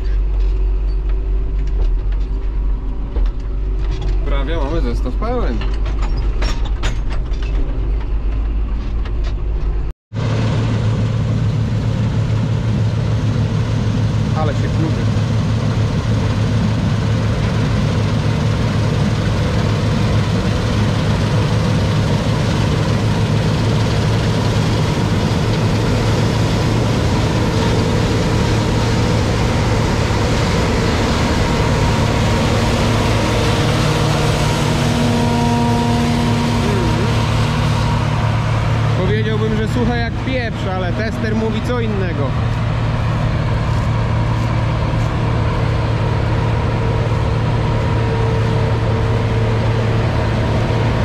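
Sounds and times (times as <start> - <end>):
diesel engine humming: 0.0 - 51.0.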